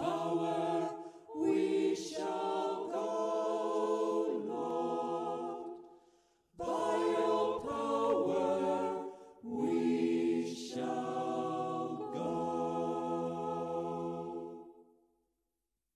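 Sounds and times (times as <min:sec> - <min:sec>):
a cappella choir singing: 0:00.0 - 0:14.9.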